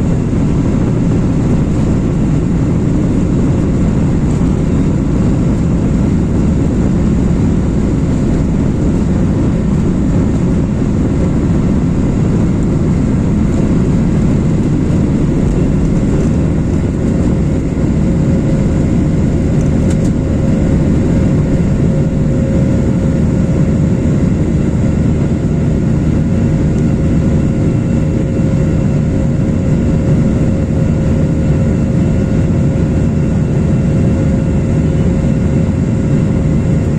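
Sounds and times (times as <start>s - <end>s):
jet engines at takeoff power: 0.0s - 36.9s.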